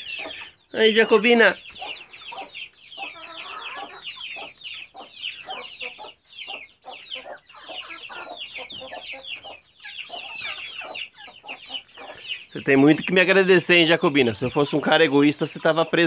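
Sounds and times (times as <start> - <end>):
chicks peeping: 0.0 - 16.0
hens clucking: 0.0 - 16.0.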